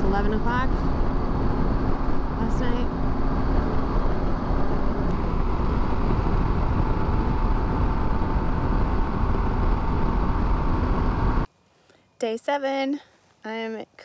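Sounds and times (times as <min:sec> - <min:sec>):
heavy wind rush: 0:00.0 - 0:11.5
motorcycle engine and tyres: 0:00.0 - 0:11.5
faint steady whine: 0:00.0 - 0:13.4.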